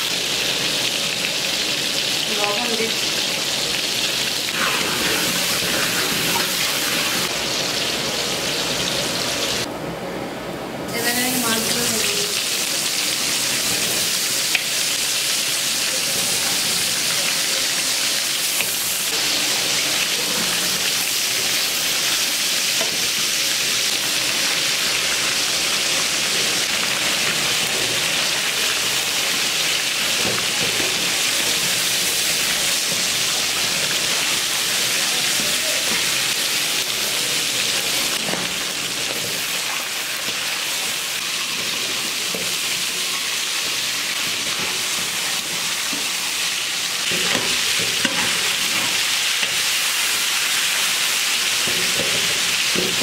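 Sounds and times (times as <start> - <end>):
fish frying in hot oil: 0.0 - 9.7, 11.0 - 53.0.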